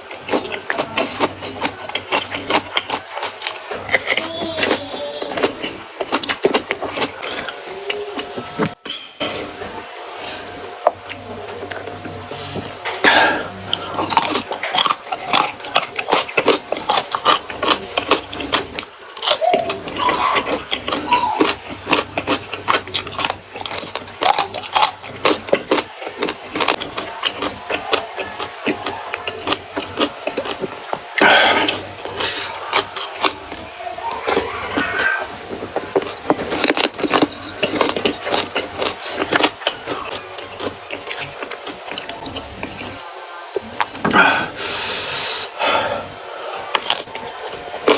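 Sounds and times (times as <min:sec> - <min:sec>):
mouth chewing and crunching: 0:00.0 - 0:09.8, 0:10.8 - 0:45.2, 0:46.7 - 0:47.9.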